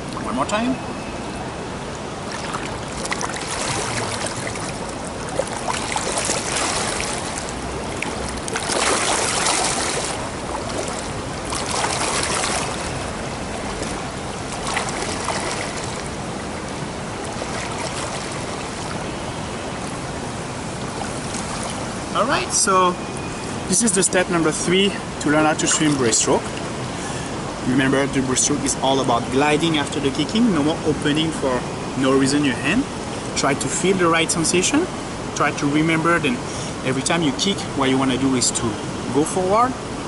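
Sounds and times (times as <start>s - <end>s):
pool water splashing: 0.0s - 40.0s.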